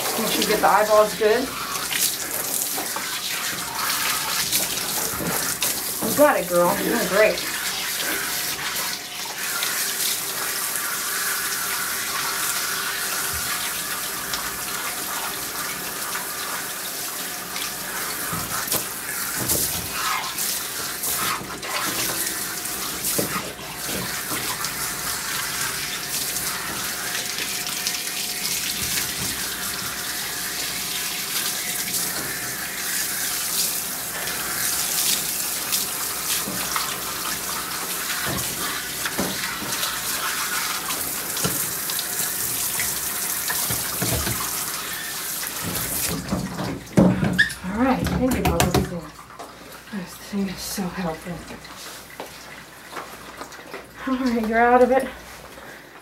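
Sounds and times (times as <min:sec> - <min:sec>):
water spraying from hose: 0:00.0 - 0:46.4.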